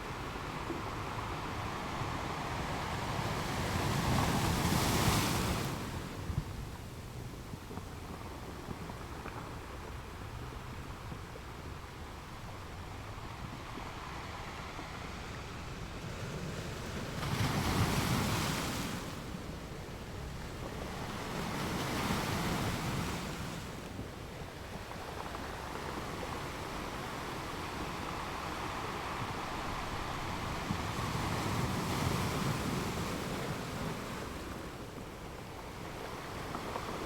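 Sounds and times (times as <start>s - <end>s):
ocean surf washing: 0.0s - 37.0s.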